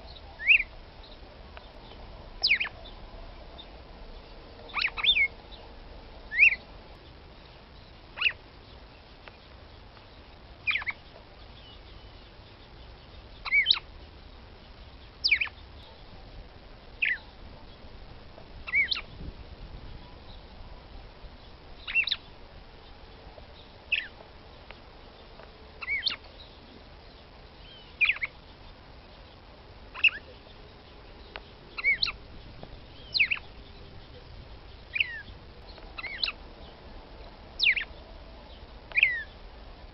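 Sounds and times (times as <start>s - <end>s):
bird high chirps: 0.0s - 16.1s, 17.0s - 17.9s, 18.6s - 19.2s, 21.4s - 24.2s, 25.1s - 36.8s, 37.6s - 39.5s.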